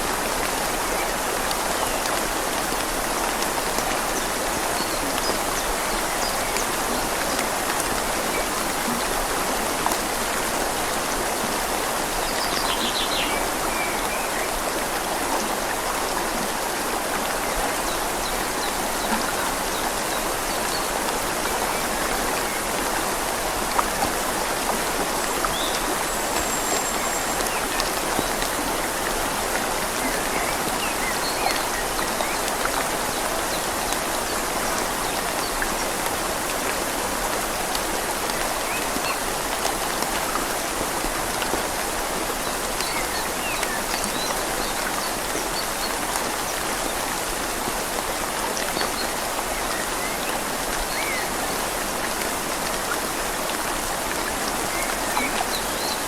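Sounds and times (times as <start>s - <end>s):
rain falling on leaves: 0.0s - 56.0s
river flowing: 0.0s - 56.0s.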